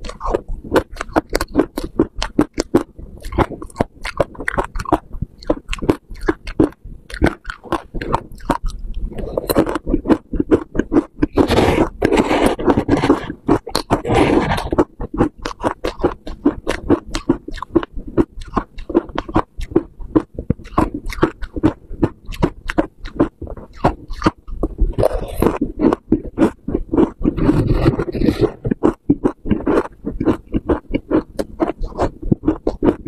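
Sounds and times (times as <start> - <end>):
crisp crunches of chewing frost: 0.0 - 19.9, 20.6 - 33.0.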